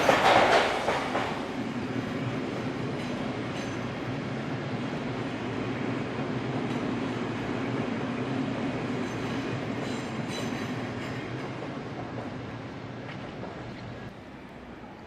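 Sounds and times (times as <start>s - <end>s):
train rail rumble: 0.0s - 15.0s.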